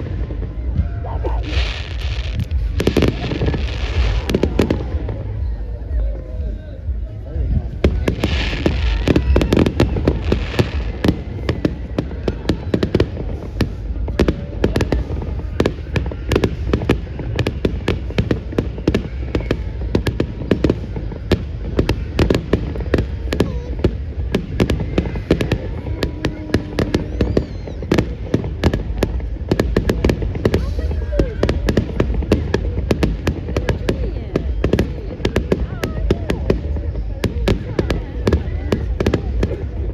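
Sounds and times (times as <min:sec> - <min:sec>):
low rumble: 0:00.0 - 0:39.9
bonfire crackling and popping: 0:06.9 - 0:39.9.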